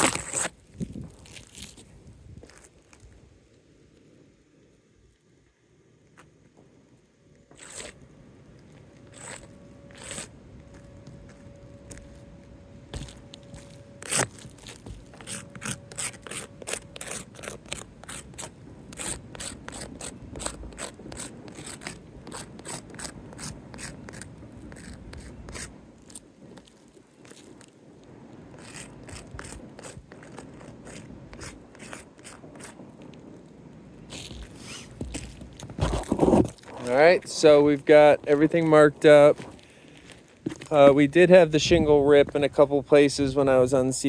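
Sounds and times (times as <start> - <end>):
tool scraping on roof shingles: 0.0 - 3.0, 7.5 - 8.0, 8.7 - 27.8, 28.5 - 32.8, 34.1 - 42.4.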